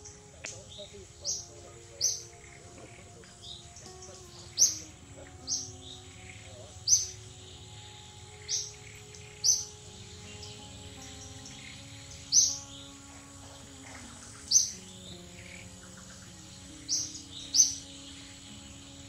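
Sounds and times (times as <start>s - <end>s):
bird chirping: 0.0s - 19.0s
faint background music: 0.0s - 19.0s.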